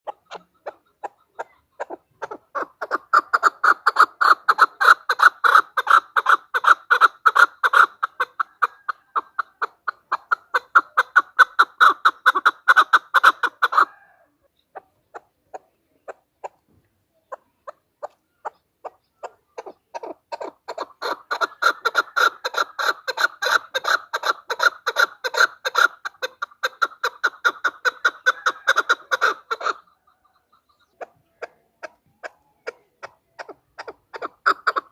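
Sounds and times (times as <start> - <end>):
partridge calling: 0.1 - 34.9.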